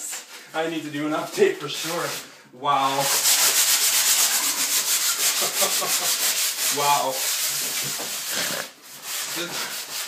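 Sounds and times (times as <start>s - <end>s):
sandpaper rubbing on wood: 1.2s - 2.2s, 2.8s - 10.0s.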